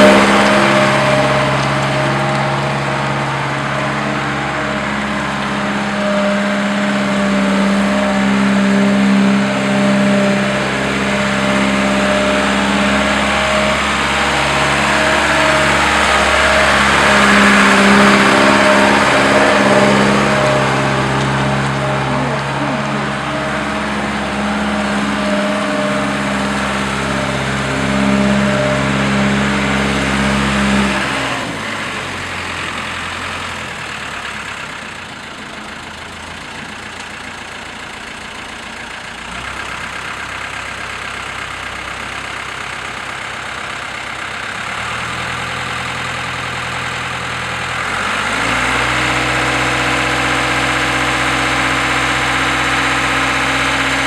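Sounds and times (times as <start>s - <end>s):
concrete mixer diesel engine: 0.0s - 54.0s.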